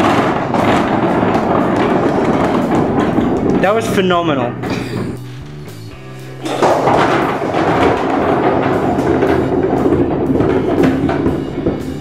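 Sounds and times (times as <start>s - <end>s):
rubber balls bouncing on wooden floor: 0.0s - 12.0s.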